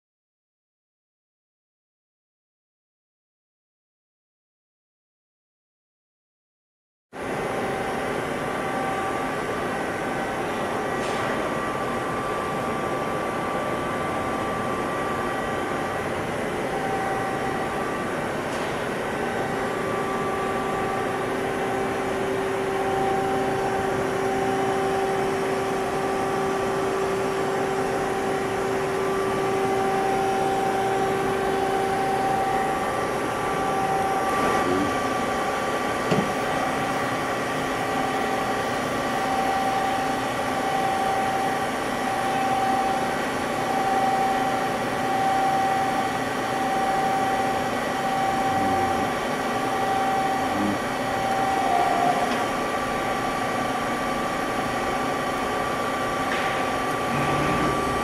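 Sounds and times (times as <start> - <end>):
lathe mechanical hum: 7.2 - 58.0
machine whining tones: 7.2 - 58.0.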